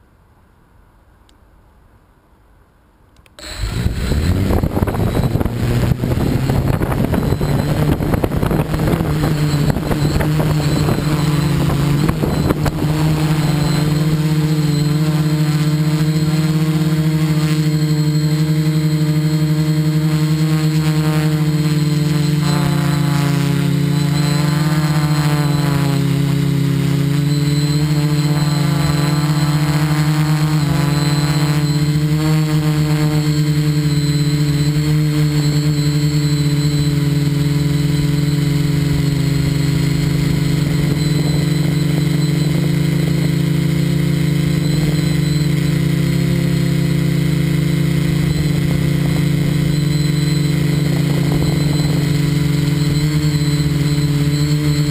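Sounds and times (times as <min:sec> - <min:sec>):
model motor humming: 0:03.4 - 0:54.9.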